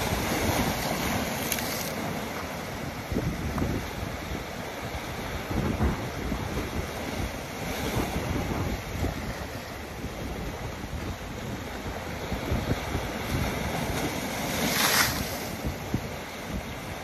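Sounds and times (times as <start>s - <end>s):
waves breaking on rocks: 0.0s - 17.0s
wind buffeting microphone: 0.0s - 17.0s.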